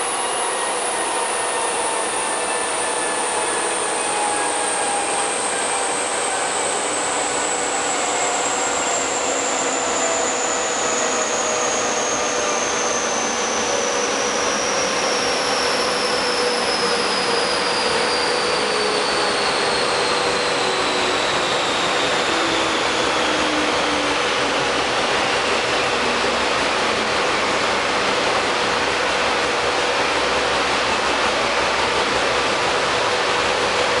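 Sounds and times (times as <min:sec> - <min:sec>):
dynamometer rollers whining down: 0:00.0 - 0:28.1
loud steady rushing noise: 0:00.0 - 0:34.0.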